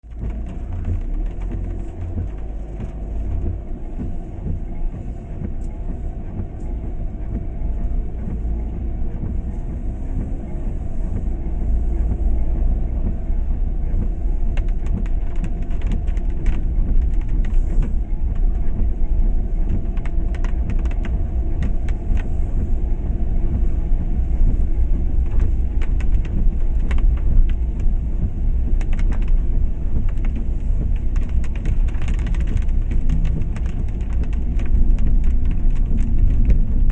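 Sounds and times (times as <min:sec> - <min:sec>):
sharp clicks and rattles: 0:00.0 - 0:08.5, 0:13.0 - 0:36.9
vehicle running gear rumble: 0:00.0 - 0:36.9.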